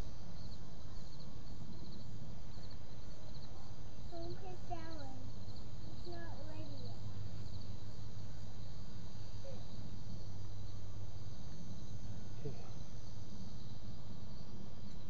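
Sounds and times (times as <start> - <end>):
insects chirring: 0.0 - 15.0
low steady hum: 0.0 - 15.0.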